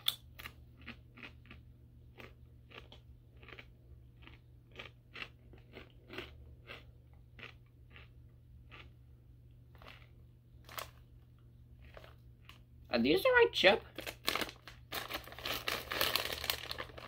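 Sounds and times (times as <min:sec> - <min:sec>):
person chewing crunchy chips: 0:00.0 - 0:12.7, 0:13.9 - 0:17.0.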